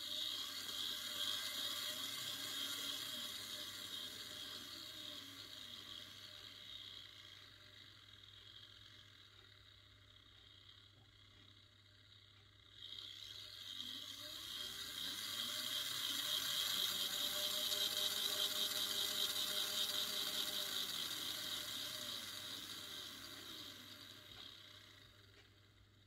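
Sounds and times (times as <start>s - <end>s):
electric motor and gears whirring: 0.0s - 26.0s.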